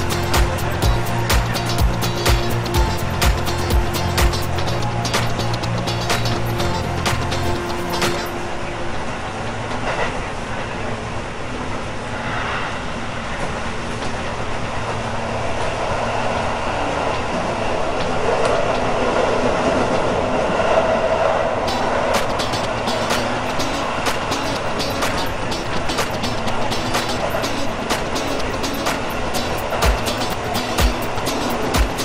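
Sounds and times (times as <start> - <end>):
electric train wheels rolling on rails: 0.0 - 32.0.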